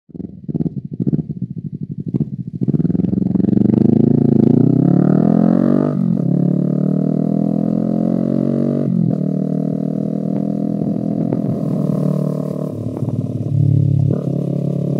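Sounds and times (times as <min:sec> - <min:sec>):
motorcycle engine revving: 0:00.1 - 0:14.9.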